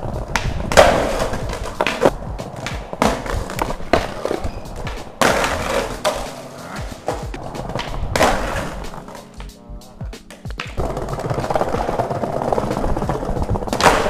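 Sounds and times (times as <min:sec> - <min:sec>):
skateboard clacking on tiles: 0:00.0 - 0:09.6, 0:10.2 - 0:14.0
skateboard wheels rolling on tiles: 0:00.0 - 0:14.0.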